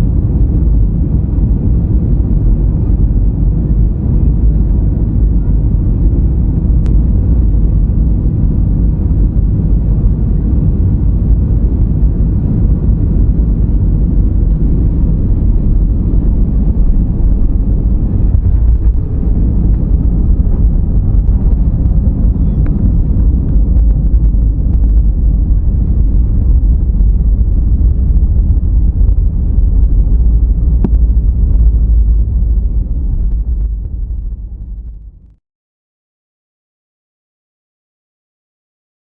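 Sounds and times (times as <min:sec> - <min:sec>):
jet airliner engines rumbling: 0:00.0 - 0:35.3.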